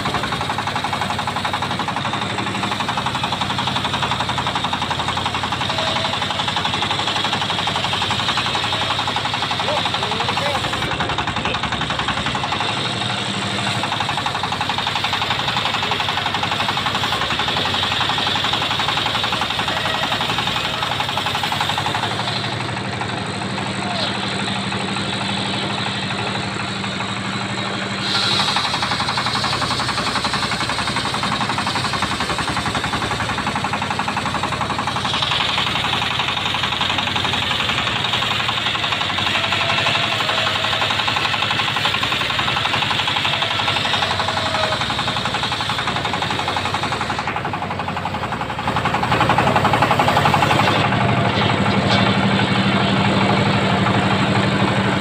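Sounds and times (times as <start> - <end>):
circular saw cutting wood: 0.0 - 55.0
saw engine running: 0.0 - 55.0.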